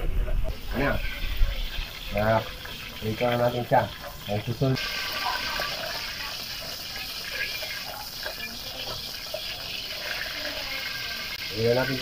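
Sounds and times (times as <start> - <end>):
hot oil sizzling in wok: 0.0 - 12.0.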